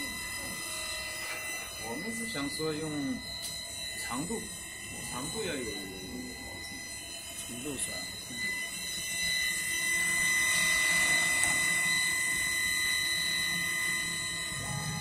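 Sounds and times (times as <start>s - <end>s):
router spindle drilling aluminium: 0.0s - 15.0s.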